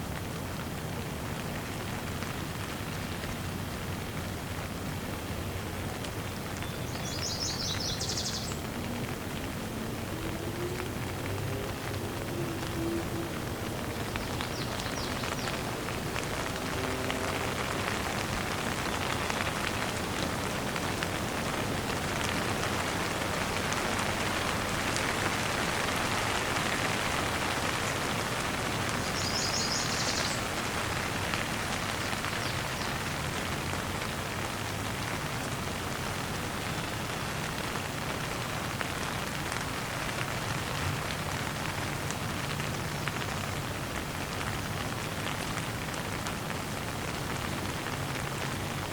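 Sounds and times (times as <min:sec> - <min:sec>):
rain drops pattering: 0:00.0 - 0:48.9.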